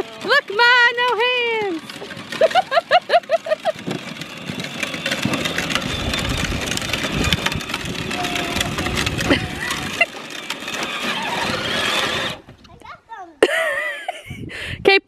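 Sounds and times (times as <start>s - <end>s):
toy tractor wheels crunching: 0.0s - 12.9s.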